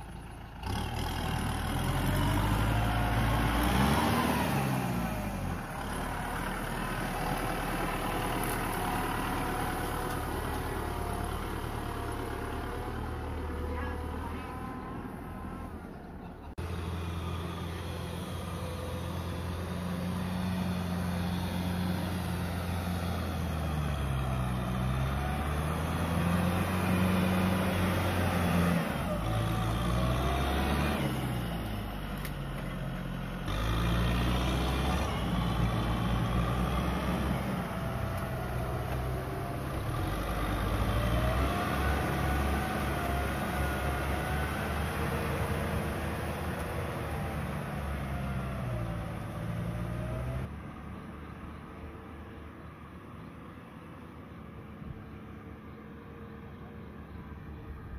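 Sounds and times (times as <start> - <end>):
diesel tractor engine revving: 0.0 - 56.3.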